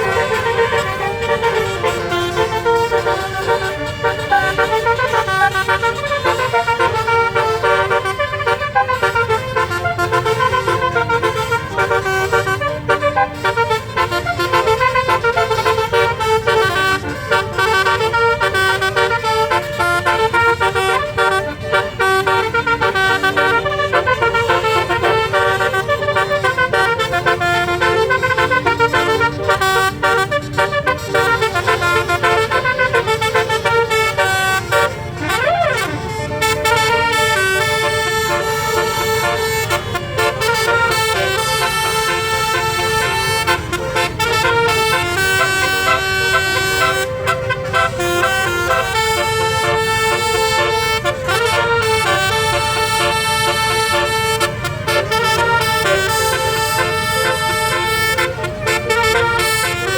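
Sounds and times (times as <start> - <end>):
multi-tone bus horn melody: 0.0 - 59.9.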